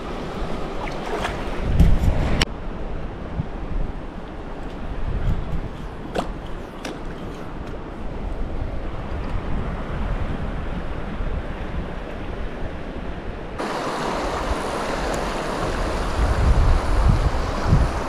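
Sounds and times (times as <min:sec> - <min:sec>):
rushing river water: 0:00.0 - 0:02.7, 0:03.6 - 0:18.0
wind rumbling on microphone: 0:00.0 - 0:18.0.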